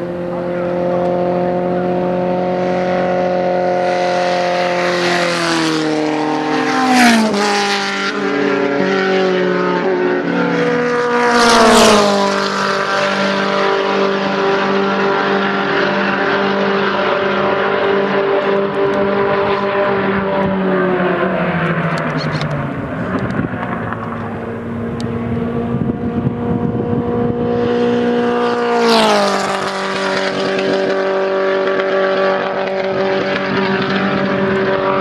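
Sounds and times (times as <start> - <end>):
race car engines: 0.0 - 35.0
race cars passing by: 0.0 - 35.0.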